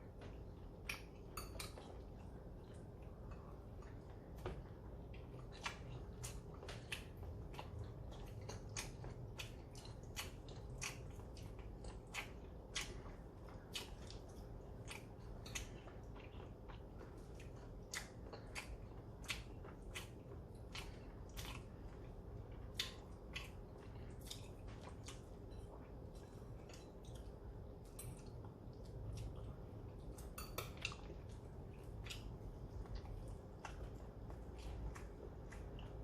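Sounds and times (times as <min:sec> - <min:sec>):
chewing with smacks: 0:00.0 - 0:36.0
low steady hum: 0:00.0 - 0:36.0.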